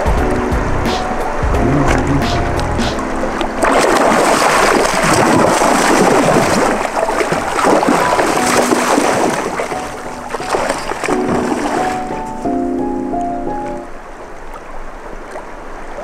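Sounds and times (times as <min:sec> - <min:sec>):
faint music: 0:00.0 - 0:14.1
river water rushing over stones: 0:00.0 - 0:16.0.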